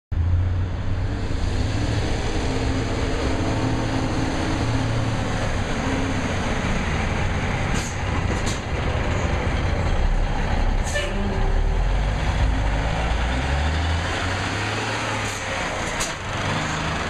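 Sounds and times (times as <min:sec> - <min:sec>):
diesel truck engine droning: 0:00.1 - 0:17.0.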